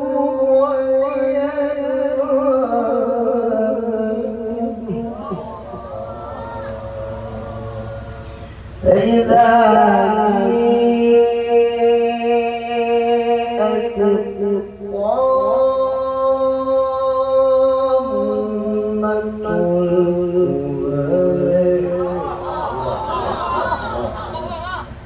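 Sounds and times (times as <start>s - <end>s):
man reciting melodically: 0.0s - 24.7s.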